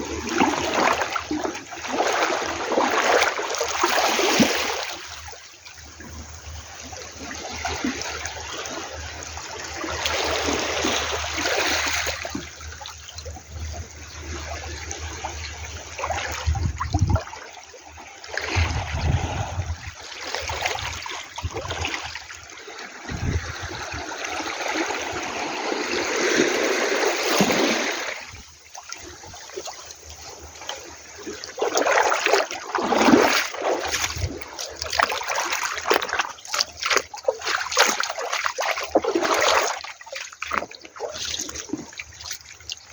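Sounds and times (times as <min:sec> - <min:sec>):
sea water washing at shore: 0:00.0 - 0:42.9.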